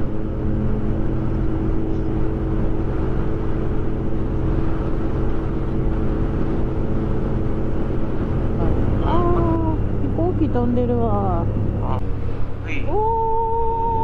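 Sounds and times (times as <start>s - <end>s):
road and wind noise: 0.0s - 14.0s.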